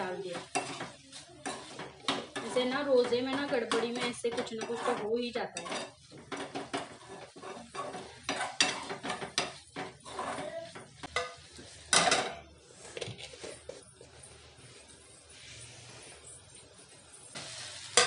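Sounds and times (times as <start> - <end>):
metal spoon scraping a pan: 0.0 - 12.3, 15.3 - 18.0.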